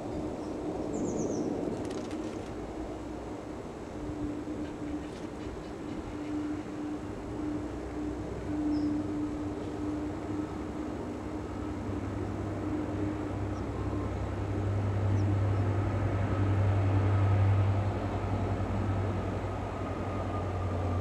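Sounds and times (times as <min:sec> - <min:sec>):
low rumbling drone: 0:00.0 - 0:21.0.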